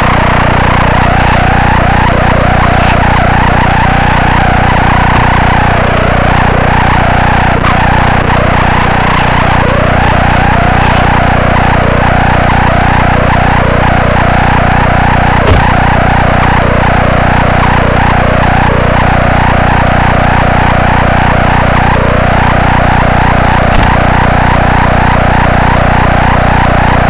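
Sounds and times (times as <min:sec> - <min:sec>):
electrical buzz with warbling whine: 0:00.0 - 0:27.0.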